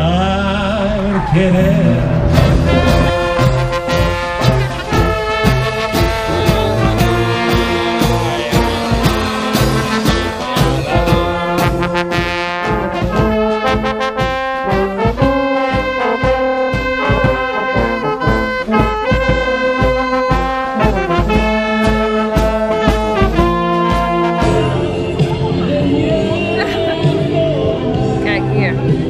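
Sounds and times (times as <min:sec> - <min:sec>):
trumpets: 0:00.0 - 0:28.8
trombone: 0:00.0 - 0:29.0
saxophones: 0:00.6 - 0:29.0
bass drum beat: 0:01.3 - 0:29.0.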